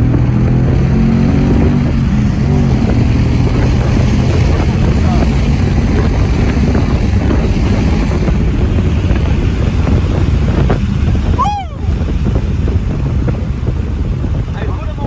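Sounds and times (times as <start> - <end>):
car engine and road noise: 0.0 - 15.0
wind buffeting microphone: 0.0 - 15.0.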